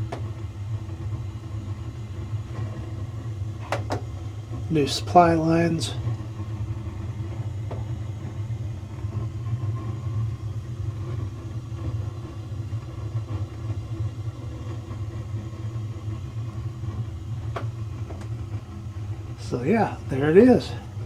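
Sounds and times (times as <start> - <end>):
gas burner rumbling: 0.0 - 21.0.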